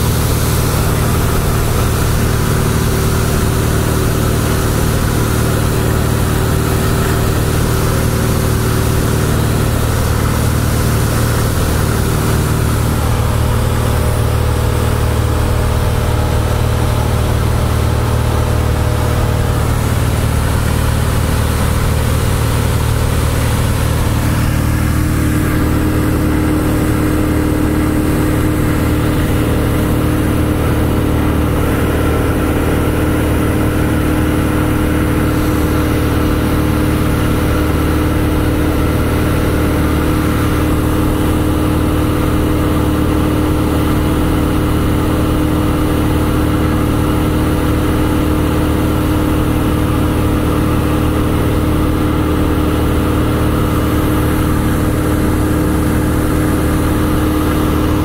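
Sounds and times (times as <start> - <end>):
propeller plane engine humming: 0.0 - 58.0.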